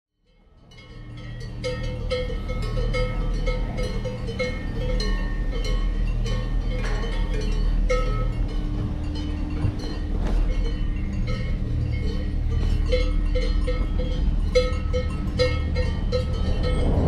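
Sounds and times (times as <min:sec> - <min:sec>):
cowbells clanking: 0:00.2 - 0:17.0
low steady rumble: 0:00.2 - 0:17.0.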